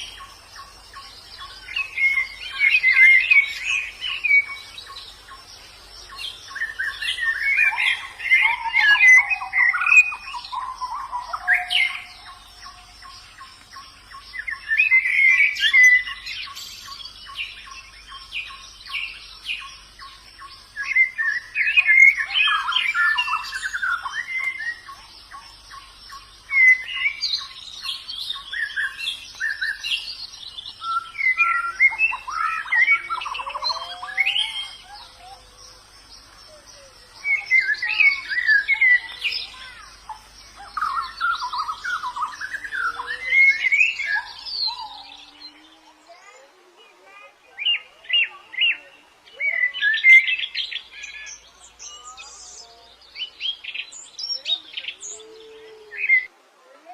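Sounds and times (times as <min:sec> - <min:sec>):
birds twittering and chirping: 0:00.0 - 0:56.9.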